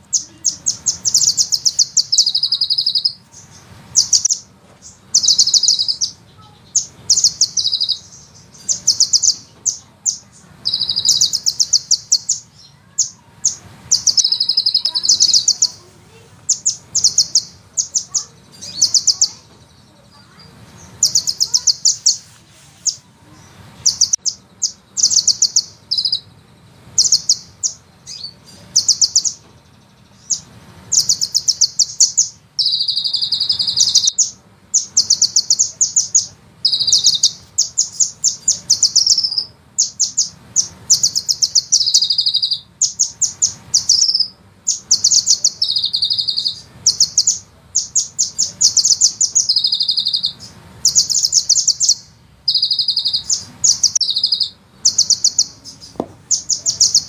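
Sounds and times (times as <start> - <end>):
bird singing high trills: 0.0 - 57.0.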